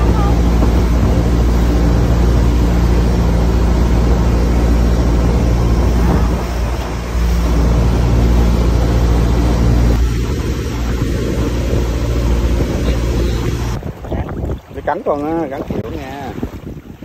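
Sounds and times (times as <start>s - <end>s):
wind rushing: 0.0s - 14.9s
boat engine droning: 0.0s - 17.0s.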